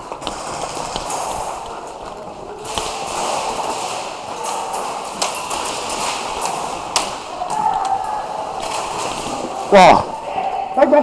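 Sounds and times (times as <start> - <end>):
rustling of movement: 0.0 - 10.8.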